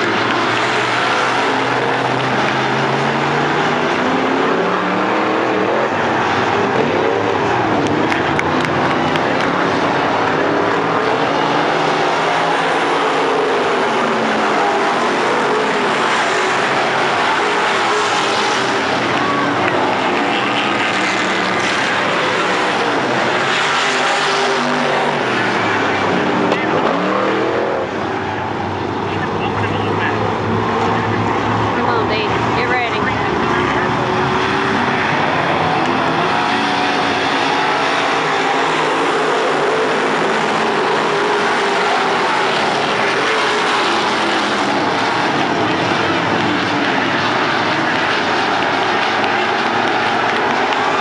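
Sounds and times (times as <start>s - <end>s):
stock cars racing: 0.0s - 51.0s.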